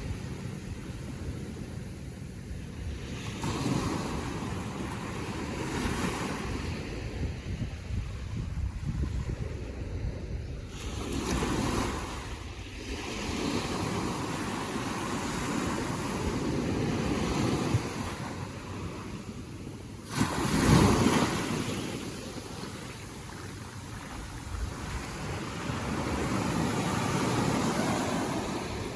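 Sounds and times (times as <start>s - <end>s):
ocean waves washing: 0.0s - 28.9s
wind rumbling on microphone: 0.0s - 28.9s.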